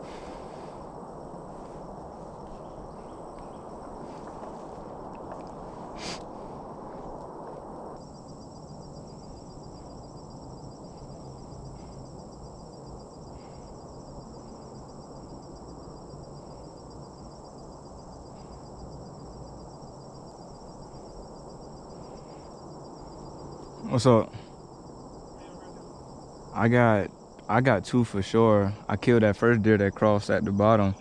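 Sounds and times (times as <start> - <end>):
insects trilling: 0.0 - 31.0
low outdoor rumble: 0.0 - 31.0.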